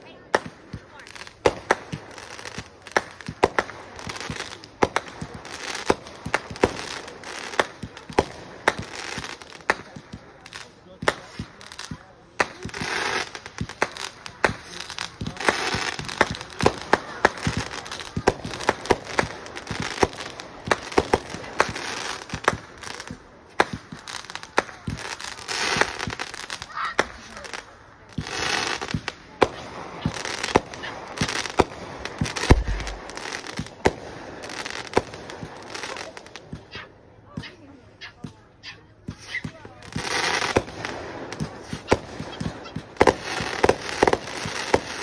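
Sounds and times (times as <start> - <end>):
fireworks banging: 0.0 - 36.8, 39.0 - 45.0
fireworks crackling: 0.0 - 45.0.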